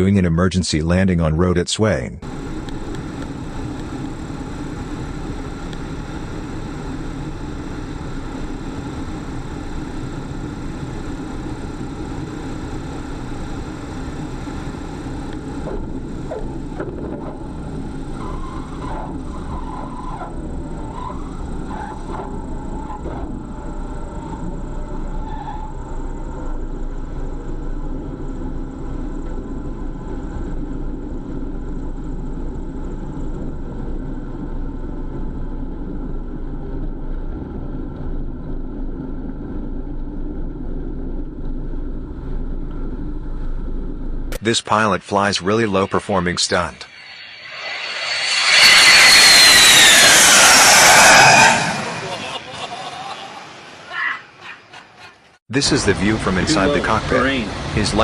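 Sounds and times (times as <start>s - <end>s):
engine drone: 2.2s - 44.4s, 45.2s - 54.0s, 55.5s - 58.0s.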